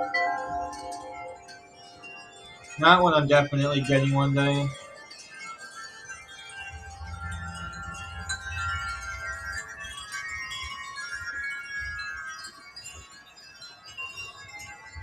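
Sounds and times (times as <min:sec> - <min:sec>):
wind chimes ringing: 0:00.0 - 0:15.0
wind rumble on microphone: 0:01.9 - 0:15.0.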